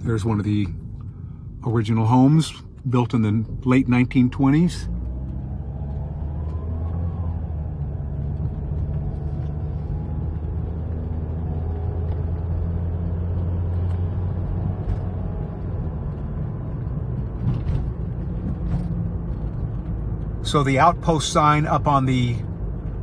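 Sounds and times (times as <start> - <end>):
car engine and road drone: 0.0 - 23.0.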